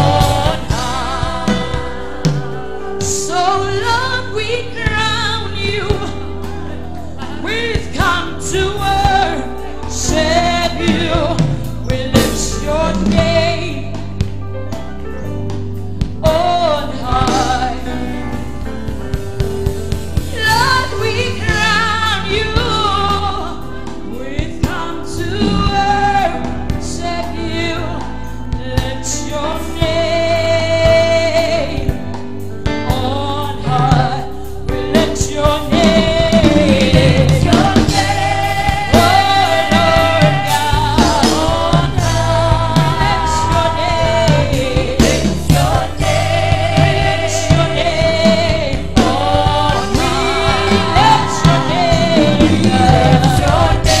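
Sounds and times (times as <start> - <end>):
backing singers: 0.0 - 14.0, 20.2 - 31.9, 33.6 - 54.0
woman singing lead: 0.0 - 14.4, 16.1 - 18.6, 20.2 - 54.0
band with bass line: 0.0 - 54.0.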